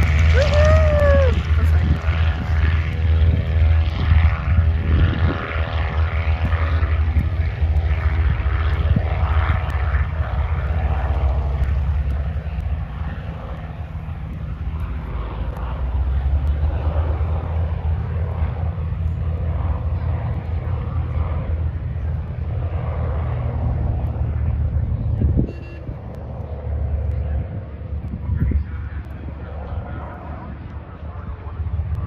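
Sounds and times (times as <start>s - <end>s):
propeller plane engine drone: 0.0s - 32.0s.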